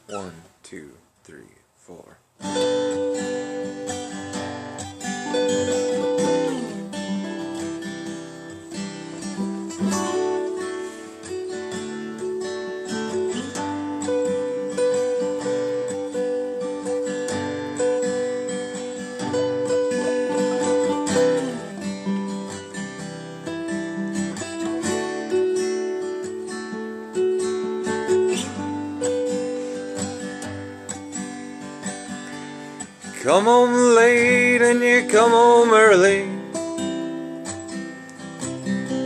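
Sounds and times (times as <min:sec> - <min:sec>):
acoustic guitar strumming: 0:00.0 - 0:00.5, 0:02.4 - 0:39.0.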